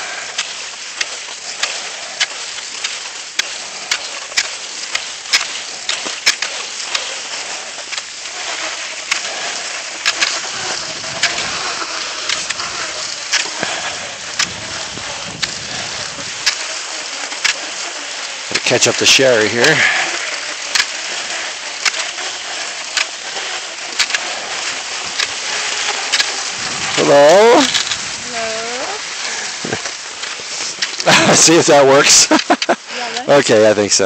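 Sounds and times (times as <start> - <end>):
sharp ski click: 0.0 - 33.3
skis gliding on snow: 0.0 - 34.0.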